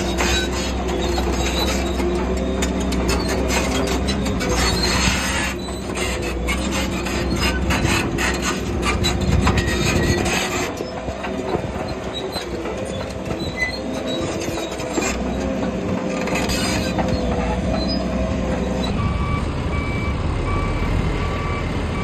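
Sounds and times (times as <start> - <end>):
steel tracks clanking and squealing: 0.0 - 19.4
bulldozer diesel engine running: 0.0 - 22.0.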